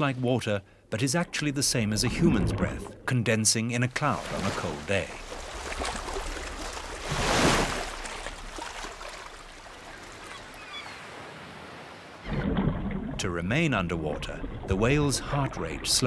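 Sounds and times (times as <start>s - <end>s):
sea water washing: 1.0s - 3.1s, 3.9s - 11.6s, 12.2s - 16.0s.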